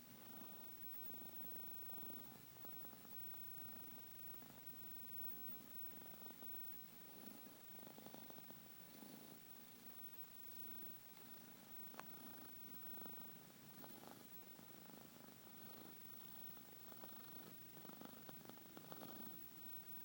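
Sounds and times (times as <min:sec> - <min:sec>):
cat snoring: 0:00.2 - 0:04.7, 0:05.3 - 0:09.4, 0:12.0 - 0:19.4.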